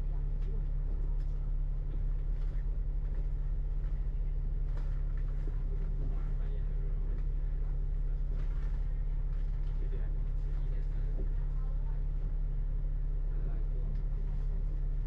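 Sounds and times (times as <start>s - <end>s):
vehicle rumble from inside: 0.0s - 15.0s.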